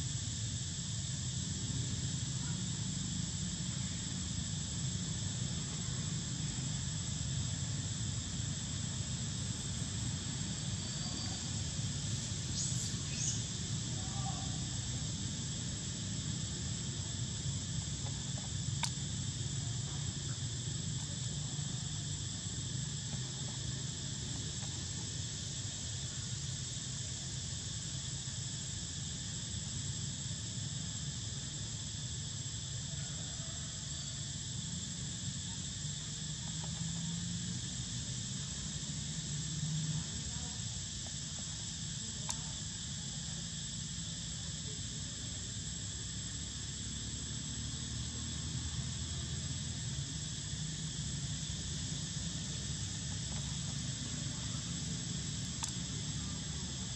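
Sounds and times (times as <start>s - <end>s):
high insect chorus: 0.0s - 56.9s.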